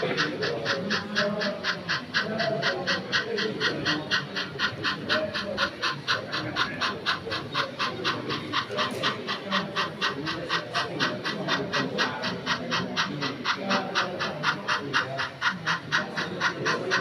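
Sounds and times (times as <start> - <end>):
model steam locomotive chuffing: 0.0 - 17.0
murmur of background chatter: 0.0 - 17.0.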